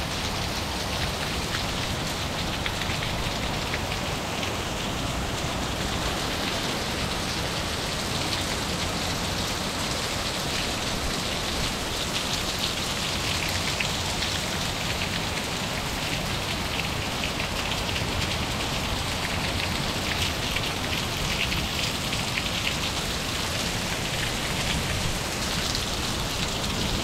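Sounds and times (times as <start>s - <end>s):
heavy rain on pavement: 0.0s - 27.0s.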